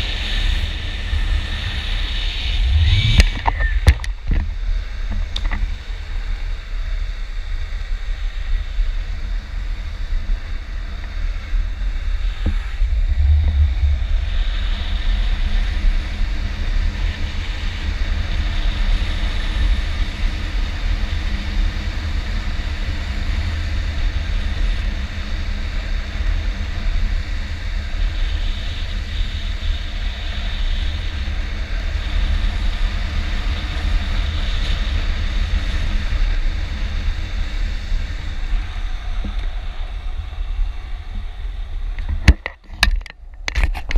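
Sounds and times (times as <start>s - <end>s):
longboard wheels rolling on asphalt: 0.0s - 43.9s
wind buffeting microphone: 0.0s - 43.9s.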